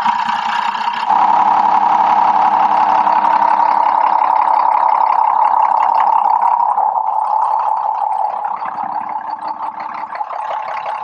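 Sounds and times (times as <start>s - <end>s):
diesel engine idling: 0.0s - 11.0s
steady high hum: 1.1s - 11.0s.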